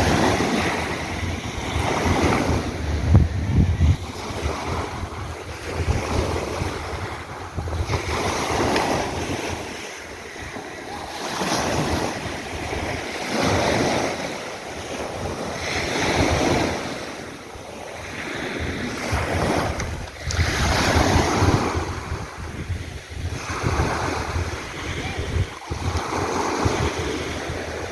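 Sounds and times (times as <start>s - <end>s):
sea waves breaking: 0.0s - 27.9s
wind buffeting the microphone: 0.0s - 27.9s.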